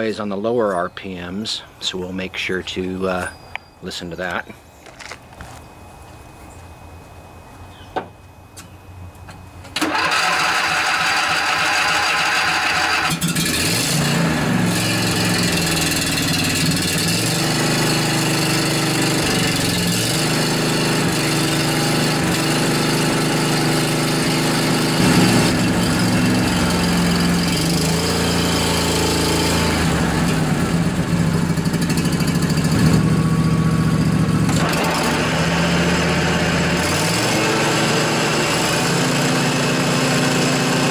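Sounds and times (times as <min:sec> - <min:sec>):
riding mower engine running: 0:00.0 - 0:40.9.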